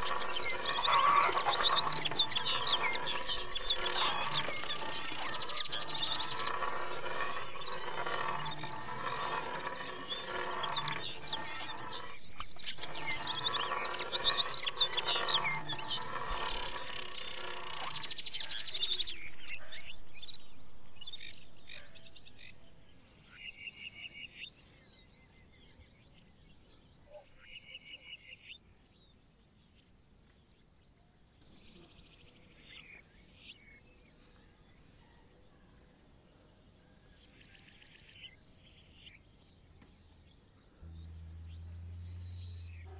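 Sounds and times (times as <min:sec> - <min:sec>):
birds chirping in chorus: 0:00.0 - 0:42.9.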